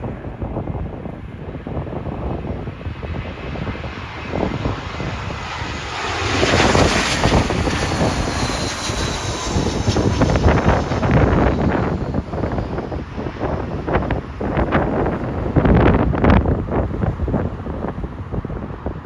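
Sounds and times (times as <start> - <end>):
jet airliner passing overhead: 0.0 - 19.0
wind buffeting microphone: 0.0 - 19.0.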